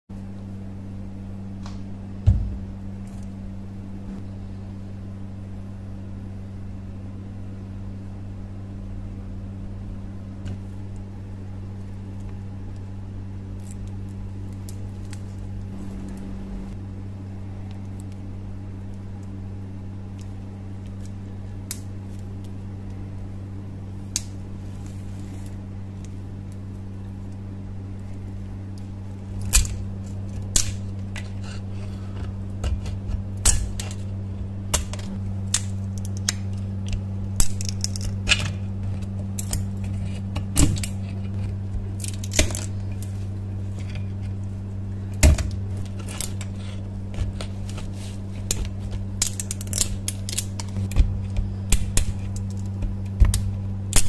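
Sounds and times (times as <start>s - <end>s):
low hum: 0.1s - 54.0s.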